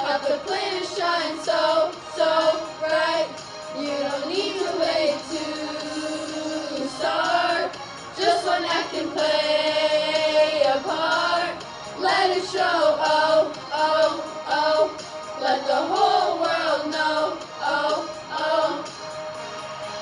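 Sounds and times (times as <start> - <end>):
backing track: 0.0 - 20.0
girls singing pop song: 0.0 - 20.0.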